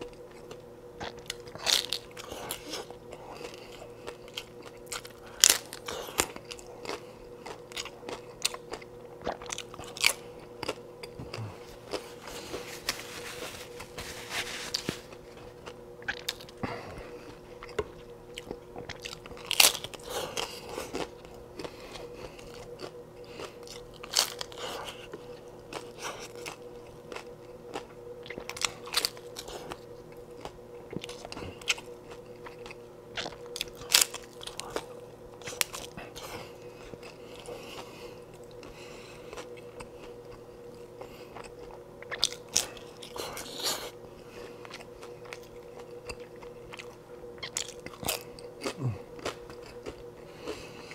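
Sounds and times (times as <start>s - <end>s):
taco shells crunching: 0.0s - 43.8s, 44.4s - 50.9s
chewing: 0.0s - 50.9s
faint steady hum: 0.0s - 50.9s.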